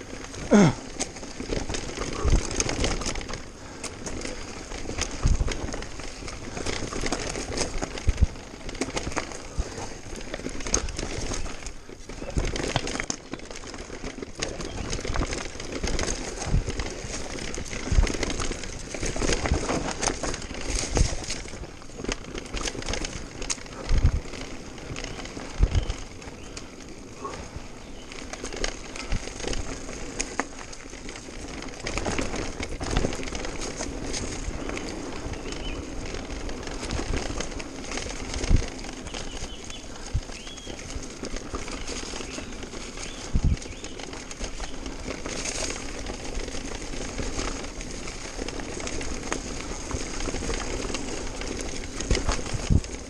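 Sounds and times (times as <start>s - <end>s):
bike rattling: 0.0s - 53.0s
bike tyres on dirt trail: 0.0s - 53.0s.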